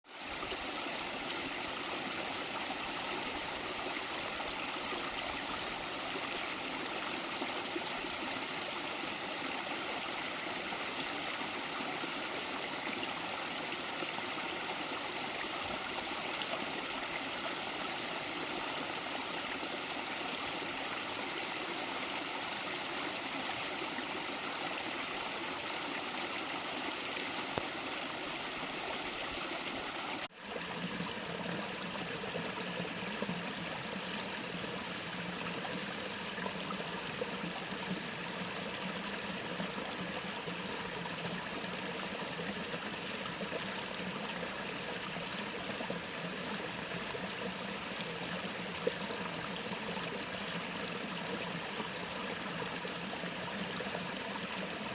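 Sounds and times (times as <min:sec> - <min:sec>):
stream flowing over rocks: 0:00.0 - 0:54.9.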